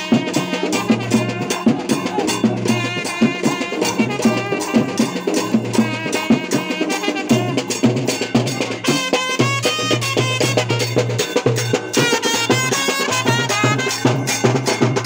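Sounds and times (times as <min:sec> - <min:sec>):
brass horns playing melody: 0:00.0 - 0:15.0
fast driving drum beat: 0:00.0 - 0:15.0.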